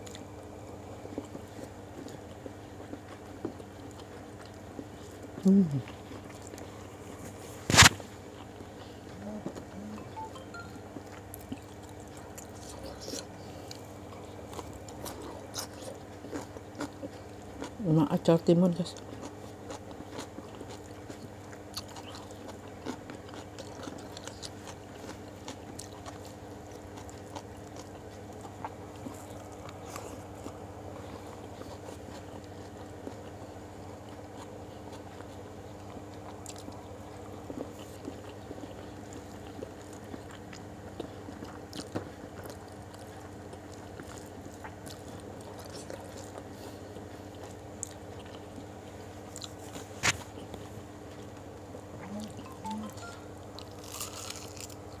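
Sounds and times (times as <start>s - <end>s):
steady low hum: 0.0s - 55.0s
person chewing: 1.1s - 17.8s, 19.0s - 51.5s, 52.1s - 55.0s.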